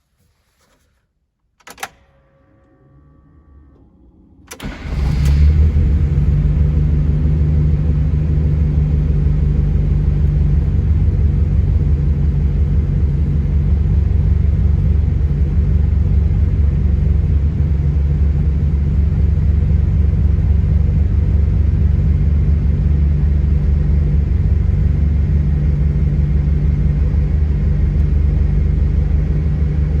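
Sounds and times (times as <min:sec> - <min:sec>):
car engine starting and idling: 0:01.8 - 0:30.0.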